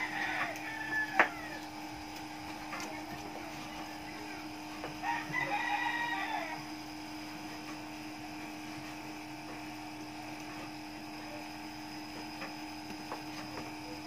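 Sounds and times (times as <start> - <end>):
steady tonal hum: 0.0 - 14.0.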